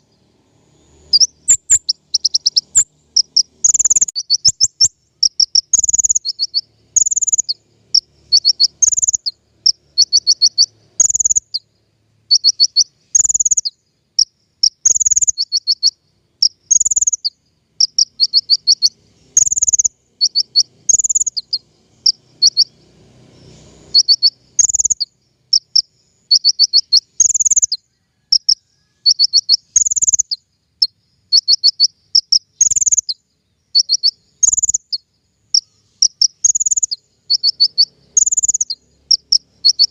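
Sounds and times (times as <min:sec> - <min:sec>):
recorded songbird song: 0:00.0 - 0:39.9.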